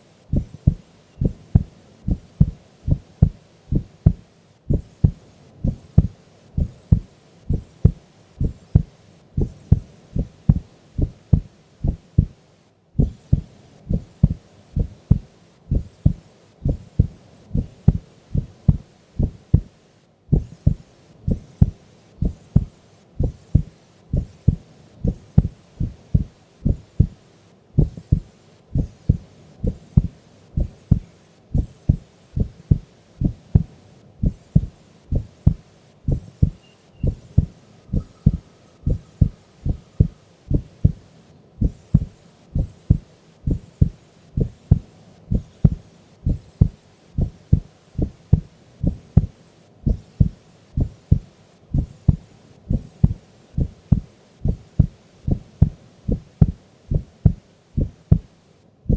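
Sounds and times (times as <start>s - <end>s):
heartbeat double thumps: 0.3s - 12.4s, 13.0s - 19.7s, 20.3s - 27.2s, 27.8s - 41.0s, 41.6s - 58.3s.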